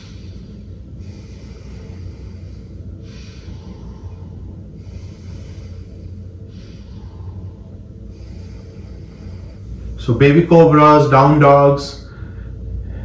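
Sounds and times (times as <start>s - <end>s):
man breathing slowly: 0.0s - 10.1s, 12.0s - 13.0s
steady low hum: 0.0s - 13.0s.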